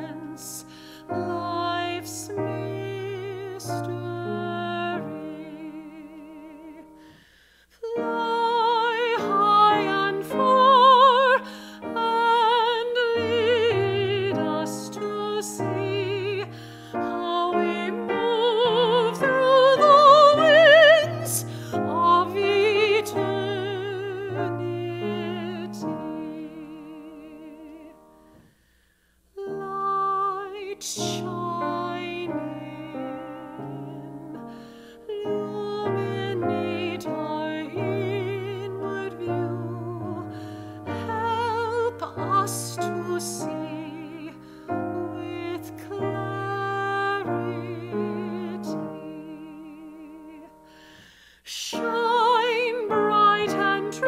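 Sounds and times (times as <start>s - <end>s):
woman singing operatically: 0.0s - 7.0s, 7.7s - 28.1s, 29.4s - 50.6s, 51.4s - 54.0s
piano accompaniment: 0.0s - 7.2s, 7.9s - 28.4s, 29.4s - 51.0s, 51.7s - 54.0s.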